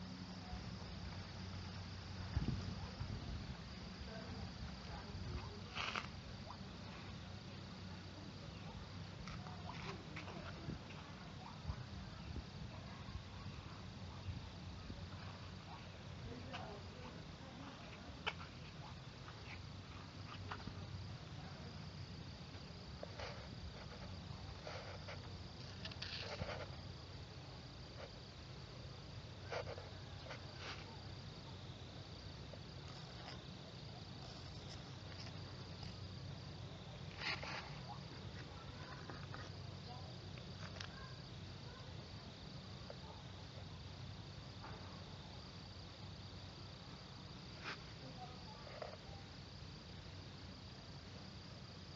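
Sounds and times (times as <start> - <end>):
faint rustles: 0.0 - 28.2, 29.1 - 41.9, 47.3 - 49.2
insects chirring: 0.0 - 51.9.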